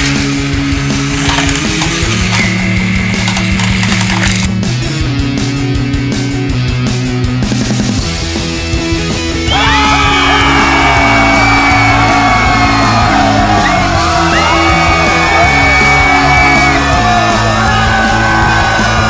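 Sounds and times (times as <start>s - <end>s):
loud rock music: 0.0s - 19.0s.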